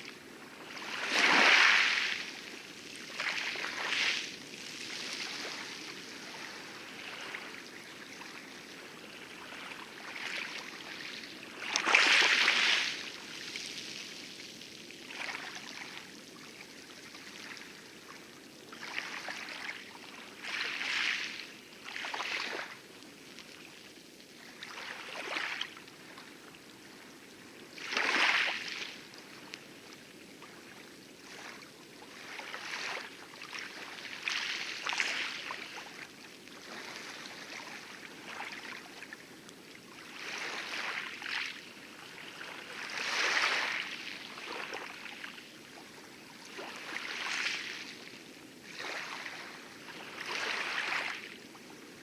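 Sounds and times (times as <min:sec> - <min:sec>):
waves lapping on coral: 0:00.0 - 0:52.0.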